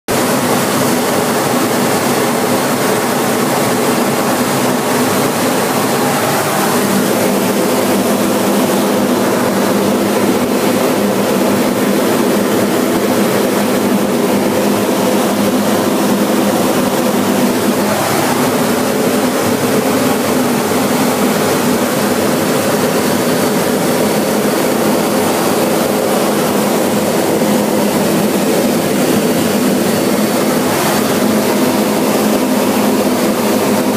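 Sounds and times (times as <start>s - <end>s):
jet engine rushing in cockpit: 0.1s - 33.9s
steady multi-tone hum: 0.1s - 33.9s.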